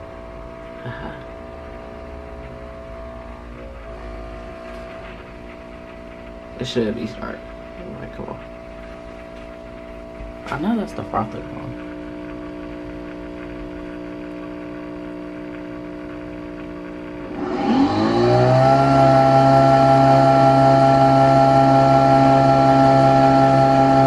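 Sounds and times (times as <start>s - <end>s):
coffee machine motor whining drone: 0.0s - 24.0s
milk frother humming: 0.0s - 24.0s.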